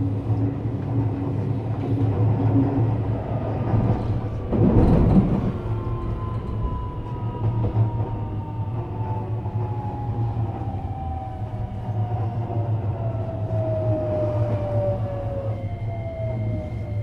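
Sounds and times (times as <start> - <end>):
electric train equipment humming: 0.0 - 17.0.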